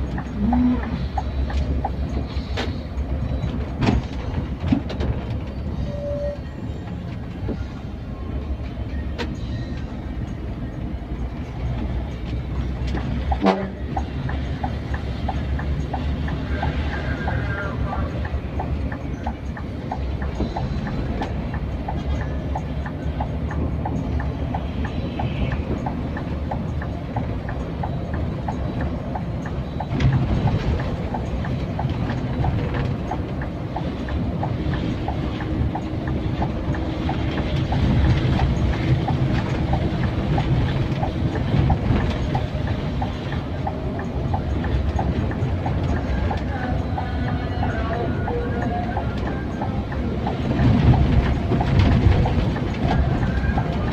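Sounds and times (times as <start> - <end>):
bus engine and road rumble: 0.0 - 53.9
light regular ticking: 10.1 - 53.9.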